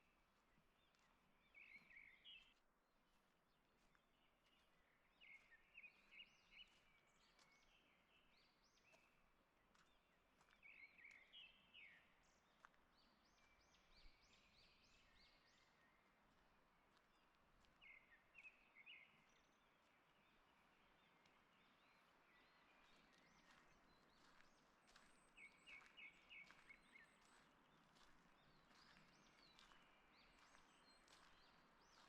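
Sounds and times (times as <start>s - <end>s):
songbird chirping: 0.3s - 2.6s, 3.8s - 32.0s.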